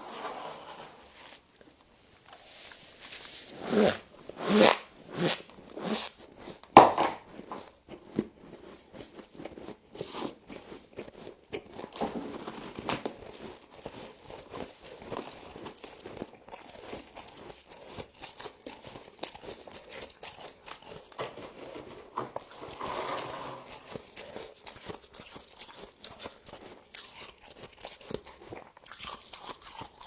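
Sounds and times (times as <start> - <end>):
frost being chewed: 1.3 - 22.8, 23.7 - 30.0.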